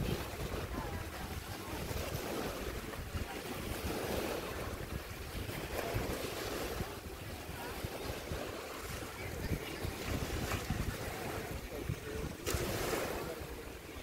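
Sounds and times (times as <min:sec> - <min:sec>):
lake surf rushing: 0:00.0 - 0:14.0
wind buffeting microphone: 0:00.0 - 0:14.0.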